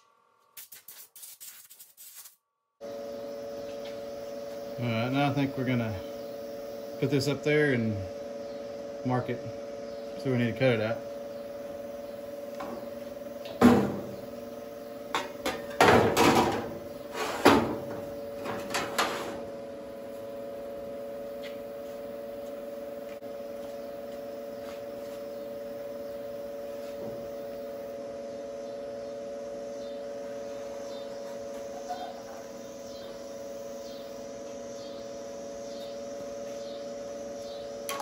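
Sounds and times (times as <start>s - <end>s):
steady electrical hum: 0.0s - 38.0s.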